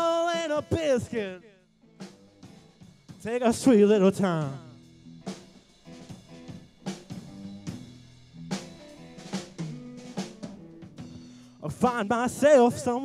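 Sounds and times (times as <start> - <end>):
drum kit slow beat: 0.0 - 13.0.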